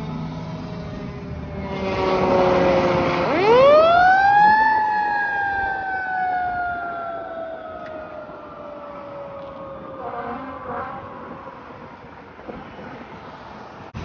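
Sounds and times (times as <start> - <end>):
fire truck siren wailing: 0.8 - 13.3.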